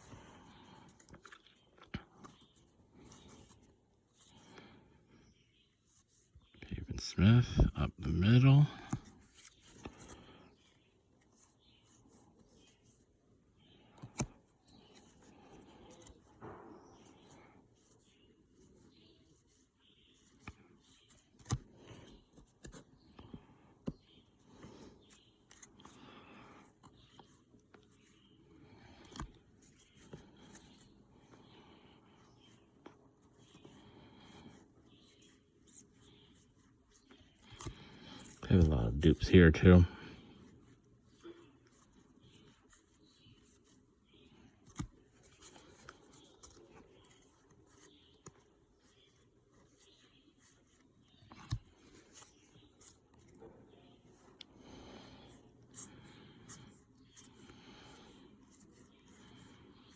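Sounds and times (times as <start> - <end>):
cards sliding rustle: 0.0 - 4.6, 8.9 - 13.2, 13.8 - 59.9.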